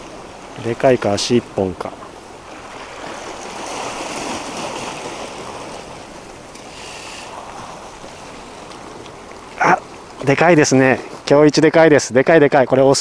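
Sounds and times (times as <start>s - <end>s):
sea waves washing over rocks: 0.0s - 11.8s.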